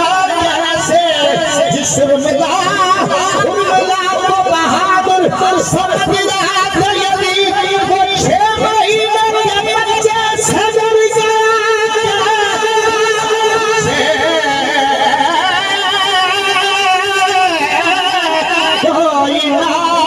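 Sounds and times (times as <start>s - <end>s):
man singing devotional song: 0.0s - 20.0s.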